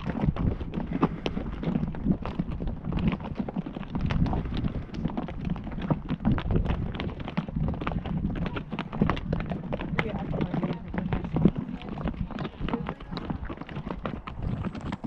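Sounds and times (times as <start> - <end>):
horse hooves clopping: 0.0 - 15.0.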